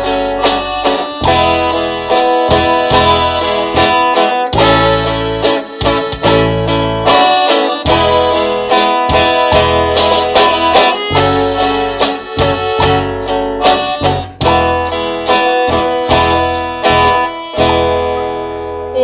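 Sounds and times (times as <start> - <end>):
plucked guitar melody: 0.0 - 19.0
sustained bass notes: 0.0 - 19.0.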